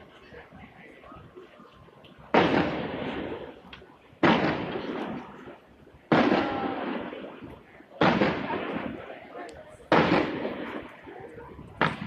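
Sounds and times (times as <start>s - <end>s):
fireworks exploding: 2.3s - 12.0s.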